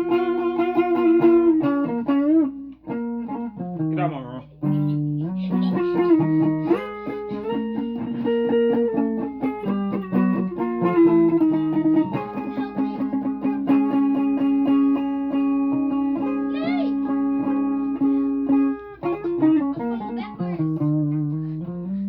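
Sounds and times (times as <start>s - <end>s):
guitar picked notes: 0.0s - 22.0s.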